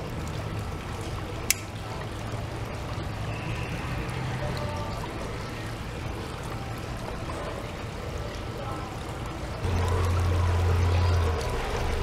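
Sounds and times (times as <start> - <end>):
fountain water trickling: 0.0 - 12.0.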